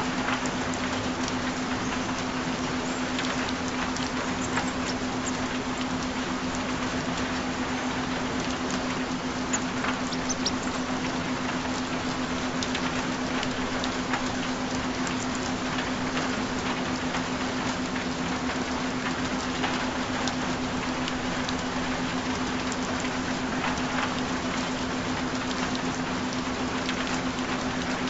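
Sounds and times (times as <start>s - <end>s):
continuous low tone: 0.0s - 24.9s
steady rain: 0.0s - 28.0s.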